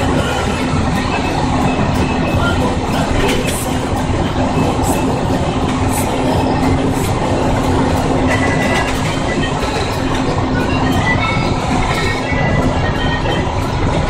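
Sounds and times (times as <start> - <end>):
cab rattling: 0.0 - 14.0
road noise hum: 0.0 - 14.0
truck engine drone: 0.0 - 14.0.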